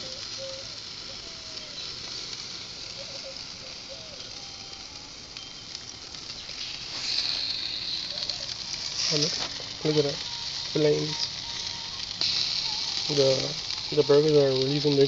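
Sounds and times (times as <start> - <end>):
grease flaring on coals: 0.0 - 15.0
patties sizzling on grill: 0.0 - 15.0.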